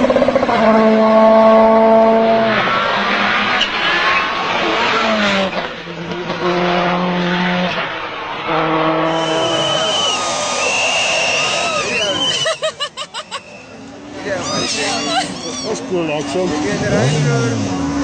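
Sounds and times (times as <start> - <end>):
rally car engine revving: 0.0 - 12.4, 13.4 - 18.0.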